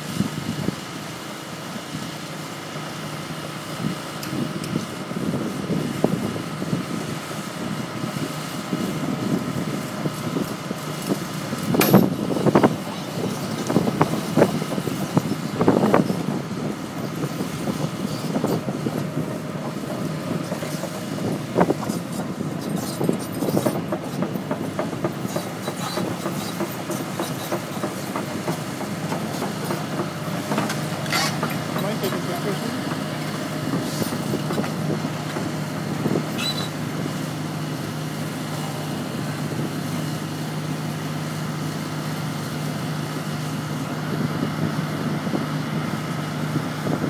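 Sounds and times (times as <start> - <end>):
excavator diesel engine humming: 0.0 - 47.0.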